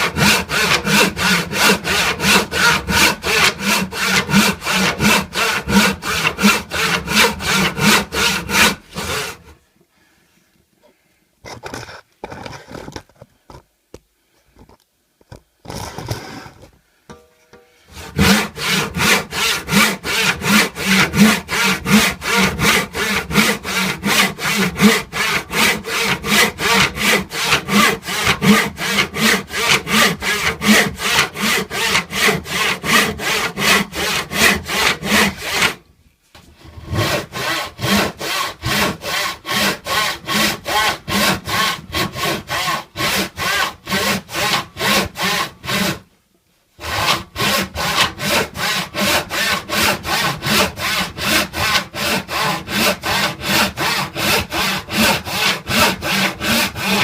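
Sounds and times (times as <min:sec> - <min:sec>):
hand saw cutting wood: 0:00.0 - 0:09.5, 0:17.9 - 0:35.8, 0:36.6 - 0:46.1, 0:46.8 - 0:57.0.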